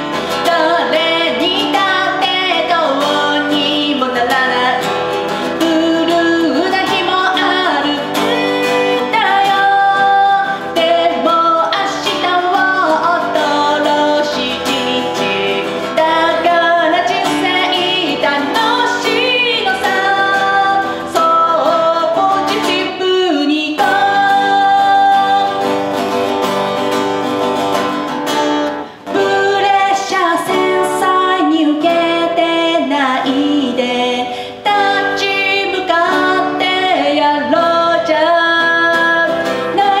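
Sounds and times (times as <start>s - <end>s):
woman singing: 0.0s - 26.3s, 28.9s - 40.0s
acoustic guitar strumming: 0.0s - 40.0s.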